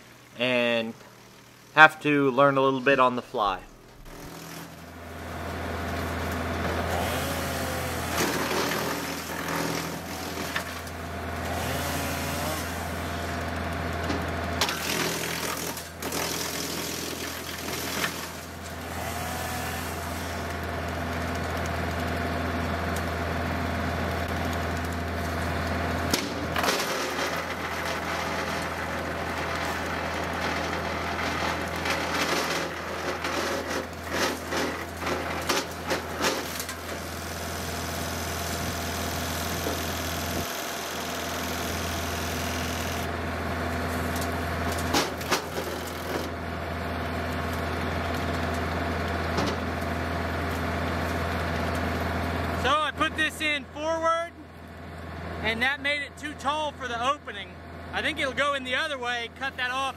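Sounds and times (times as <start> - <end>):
wood chipper running: 0.0 - 59.9
tractor diesel engine: 1.7 - 59.9
branches splintering in chipper: 4.0 - 52.6.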